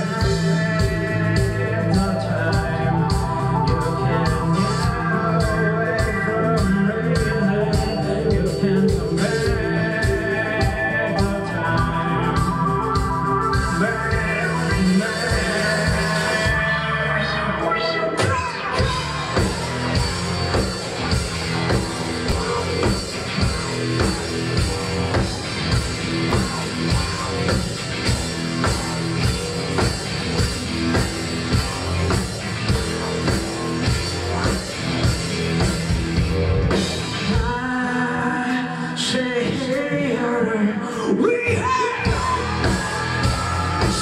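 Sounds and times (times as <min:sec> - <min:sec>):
drum kit beat: 0:00.0 - 0:17.2, 0:18.0 - 0:37.8, 0:41.7 - 0:44.0
electric guitars and bass: 0:00.0 - 0:44.0
person singing: 0:00.0 - 0:44.0.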